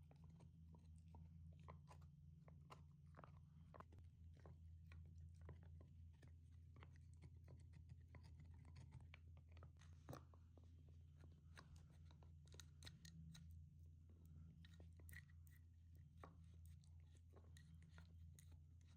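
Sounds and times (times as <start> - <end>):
faint clicks and crackles: 0.1 - 18.9.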